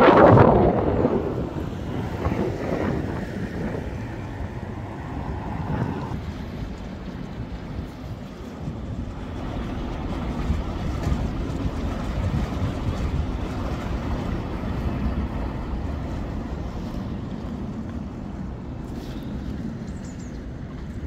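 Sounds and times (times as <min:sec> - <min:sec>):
river rushing: 0:00.0 - 0:20.9
wind buffeting microphone: 0:00.0 - 0:21.0.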